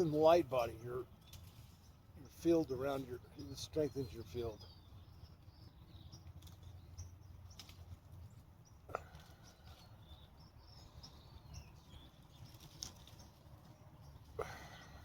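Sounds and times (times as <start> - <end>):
faint distant birds chirping: 0.0 - 15.0.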